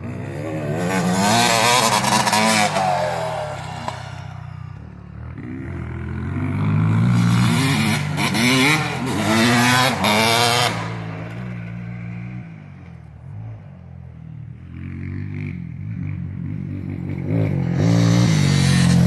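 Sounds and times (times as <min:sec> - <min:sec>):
dirt bike engine revving: 0:00.0 - 0:12.7, 0:14.7 - 0:19.0.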